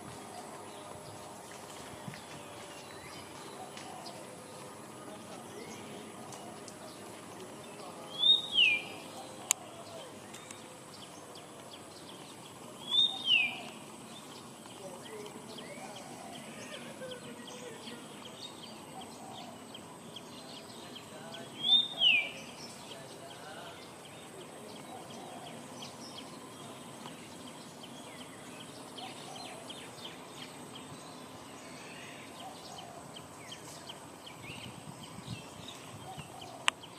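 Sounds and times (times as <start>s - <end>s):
faint distant voices: 0.0s - 36.9s.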